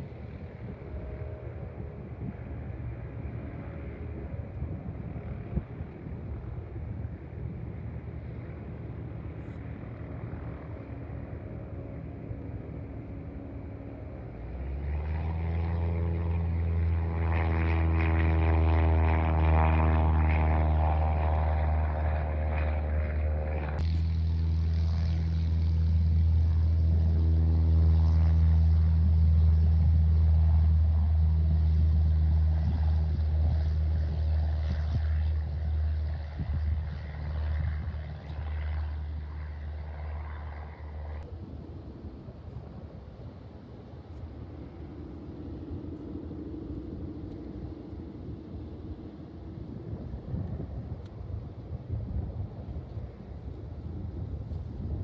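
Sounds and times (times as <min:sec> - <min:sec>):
propeller airplane droning: 0:00.0 - 0:55.0.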